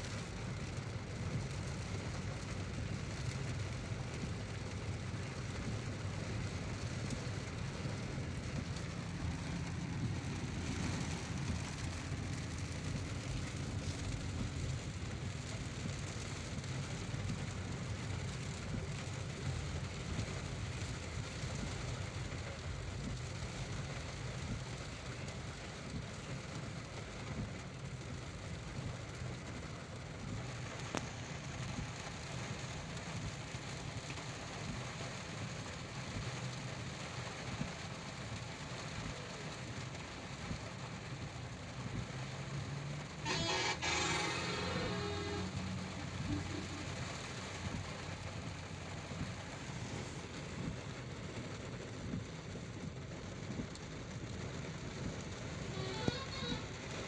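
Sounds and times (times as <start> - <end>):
rain hissing on a car: 0.0 - 57.0
road and engine rumble: 0.0 - 57.0.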